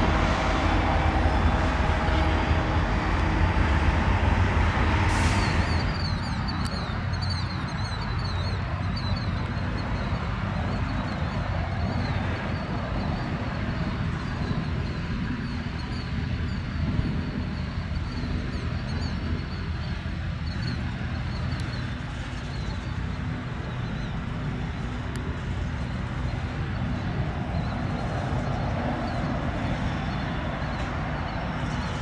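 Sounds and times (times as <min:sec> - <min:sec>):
large engine rumbling: 0:00.0 - 0:32.0.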